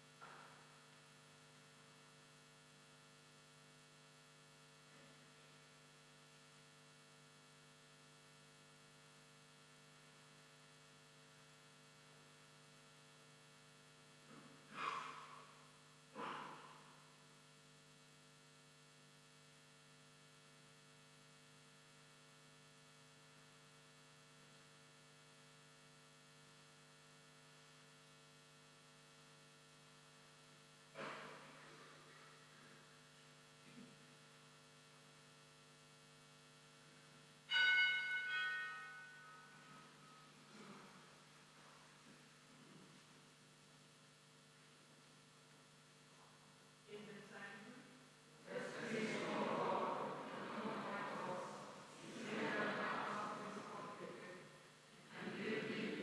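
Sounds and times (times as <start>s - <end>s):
faint electrical mains hum: 0.0s - 56.0s.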